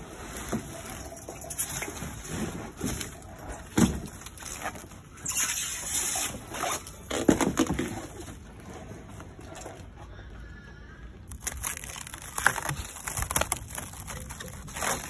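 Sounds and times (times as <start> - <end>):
plastic wrap and cardboard rustling: 0.0 - 10.0, 11.3 - 15.0.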